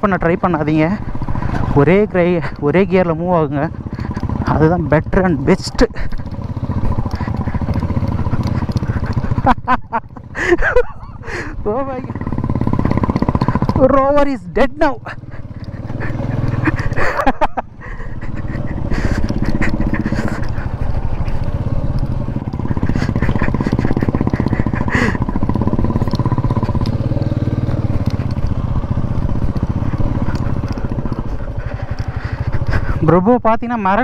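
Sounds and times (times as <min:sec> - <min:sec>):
motorcycle engine at low revs: 0:00.0 - 0:34.0.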